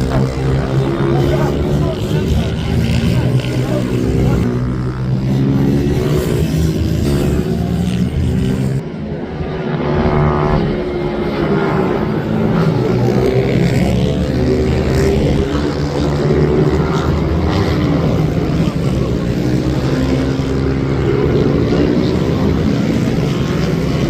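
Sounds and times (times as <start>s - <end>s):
minibike engines at high revs: 0.0s - 8.8s, 10.2s - 24.0s.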